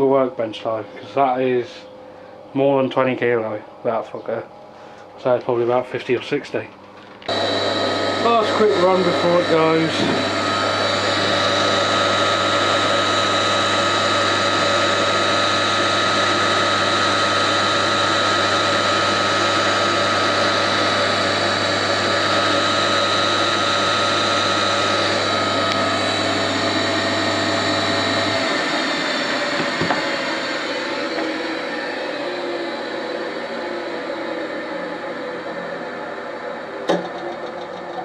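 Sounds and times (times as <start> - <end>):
electric motor humming and whining: 6.9 - 38.0.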